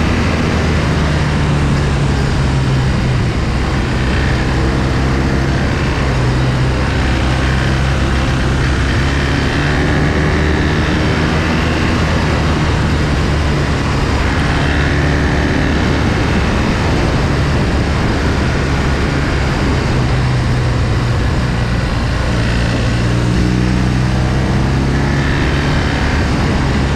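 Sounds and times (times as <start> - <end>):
motorcycle engine running: 0.0 - 26.9
wind and road noise: 0.0 - 26.9.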